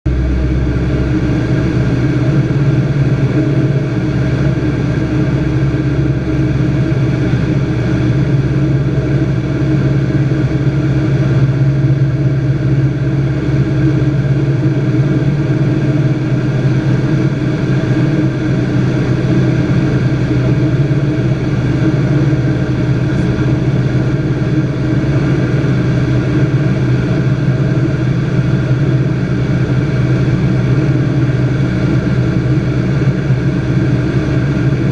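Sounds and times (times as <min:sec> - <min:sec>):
light aircraft engine drone: 0:00.1 - 0:34.9.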